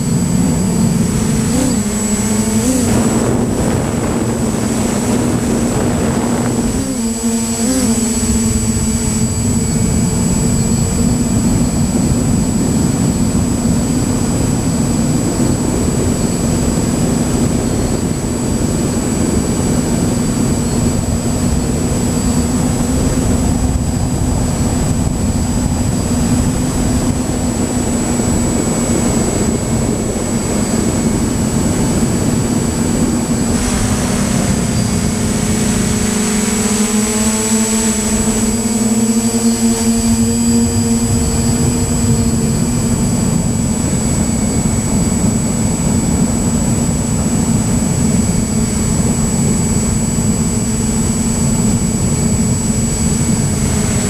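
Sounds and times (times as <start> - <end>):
rushing air noise: 0.0 - 48.3
drone motors humming: 0.0 - 54.0.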